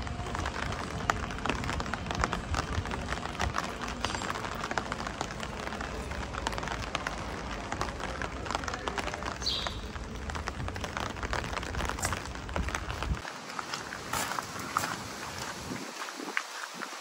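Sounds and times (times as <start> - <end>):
rain pattering: 0.0 - 17.0
wind rumble on microphone: 0.0 - 17.0.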